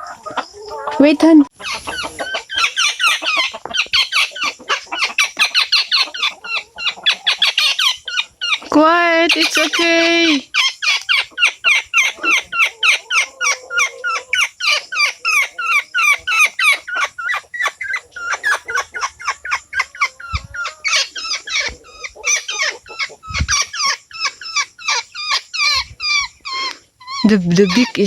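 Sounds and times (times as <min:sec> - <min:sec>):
woodpecker distress calls: 0:00.7 - 0:28.0.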